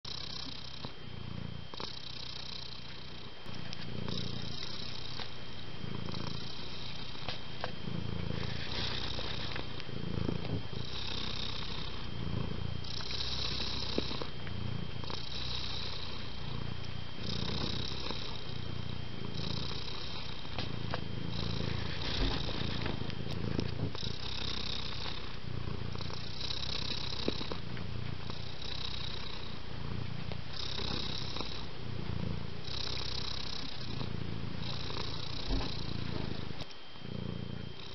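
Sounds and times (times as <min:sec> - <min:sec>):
cat purring: 0:00.1 - 0:37.9.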